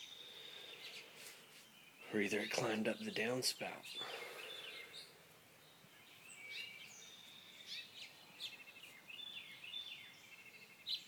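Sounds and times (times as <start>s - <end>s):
birds chirping: 0.0s - 11.0s
low steady hiss: 0.0s - 11.0s.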